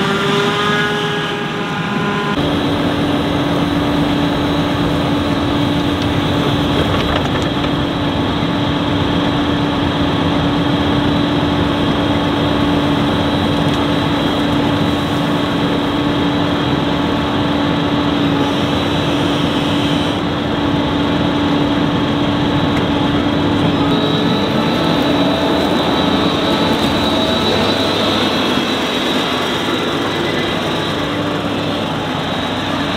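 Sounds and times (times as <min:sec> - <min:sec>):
harvester running hum: 0:00.0 - 0:32.9.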